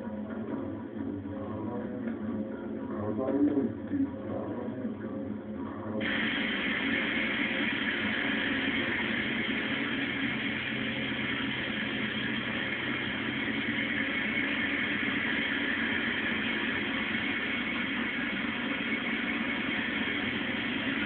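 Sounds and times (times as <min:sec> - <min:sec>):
faint hum: 0:00.0 - 0:21.0
steady noisy drone: 0:00.0 - 0:21.0.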